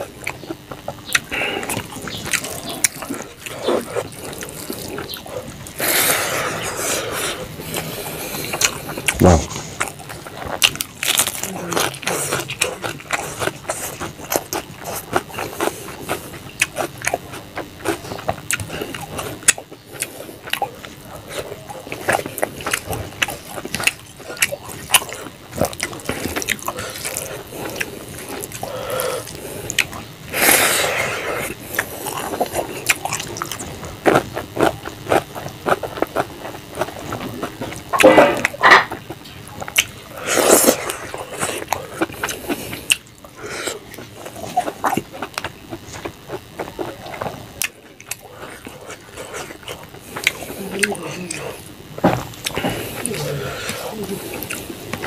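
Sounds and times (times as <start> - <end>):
mouth chewing: 0.0 - 55.0.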